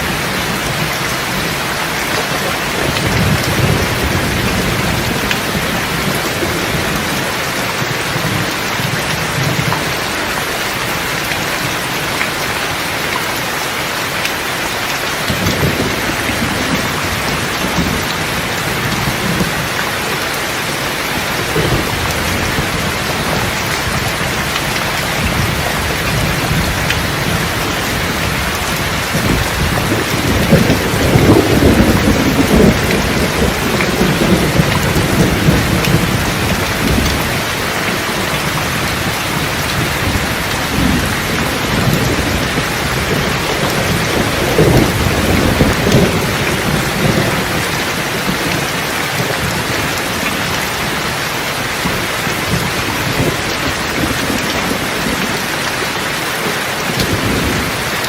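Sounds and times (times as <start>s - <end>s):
rolling thunder: 0.0s - 10.6s, 15.2s - 55.9s
steady rain: 0.0s - 58.0s.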